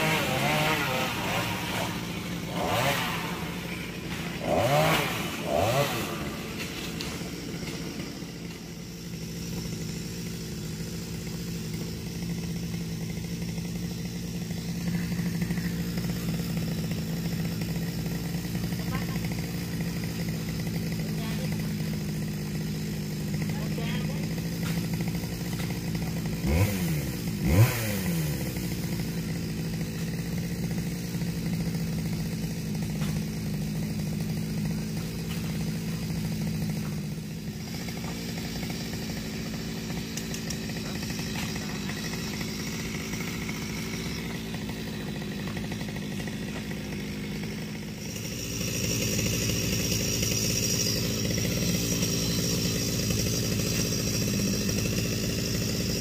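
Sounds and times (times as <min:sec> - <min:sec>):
chainsaw engine idling: 0:00.0 - 0:56.0
chainsaw engine revving: 0:00.0 - 0:56.0.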